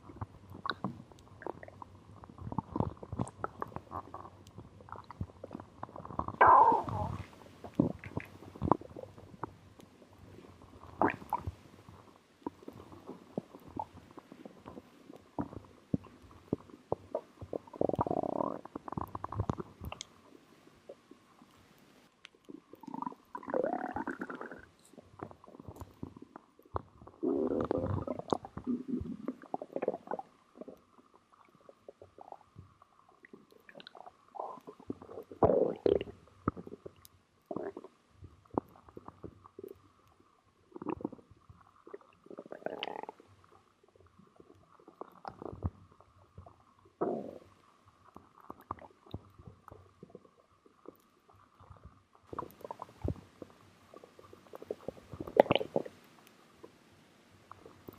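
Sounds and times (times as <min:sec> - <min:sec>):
stomach gurgling and rumbling: 0:00.0 - 0:57.9.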